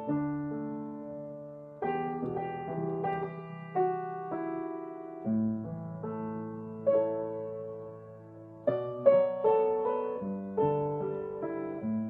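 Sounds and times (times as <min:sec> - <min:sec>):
upright piano playing chords: 0:00.0 - 0:12.0.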